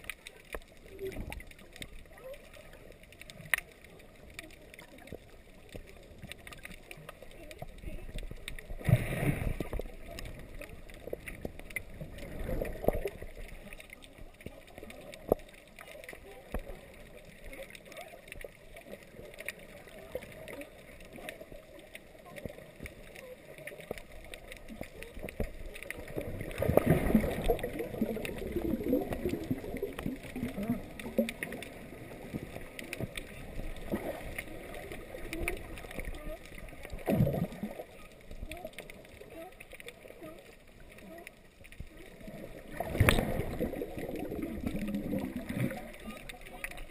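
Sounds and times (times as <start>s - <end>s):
muffled underwater sloshing: 0.0s - 46.9s
small clicks underwater: 0.0s - 46.9s
water bubbling: 0.0s - 46.9s.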